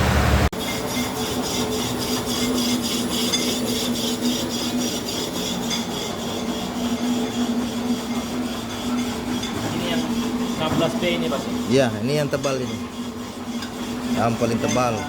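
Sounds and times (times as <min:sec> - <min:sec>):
machine humming: 0:00.0 - 0:15.0
rhythmic rubbing strokes: 0:00.6 - 0:15.0.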